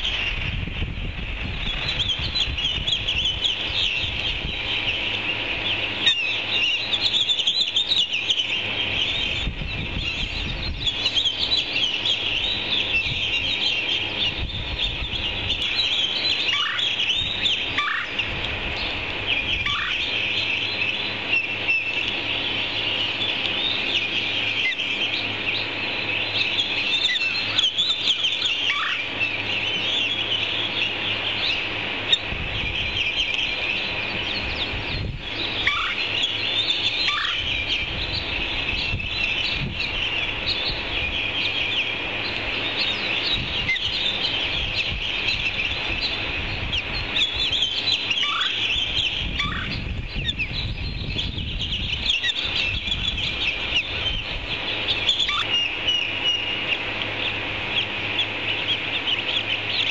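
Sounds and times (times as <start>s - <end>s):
osprey chicks chirping: 0.0s - 59.9s
bird calls sliding downward: 1.5s - 59.9s.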